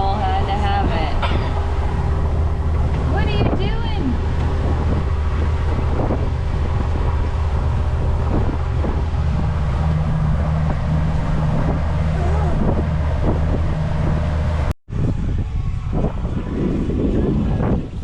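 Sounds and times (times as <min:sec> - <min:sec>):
boat engine humming: 0:00.0 - 0:18.0
wind buffeting microphone: 0:00.0 - 0:18.0.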